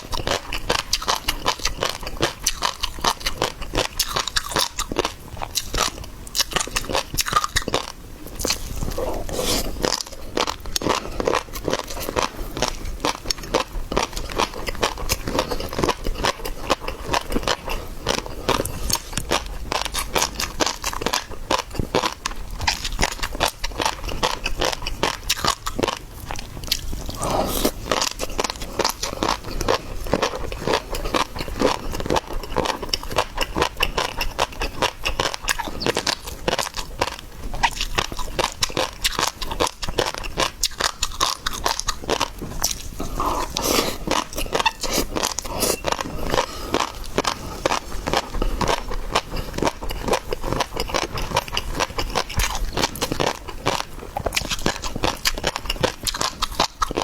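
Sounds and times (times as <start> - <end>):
chewing seafood with crunching: 0.0 - 57.0.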